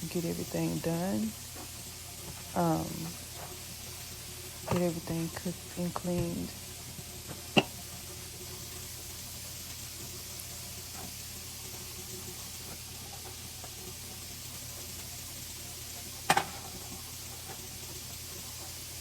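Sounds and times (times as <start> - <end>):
faint kitchen hiss: 0.0 - 19.0.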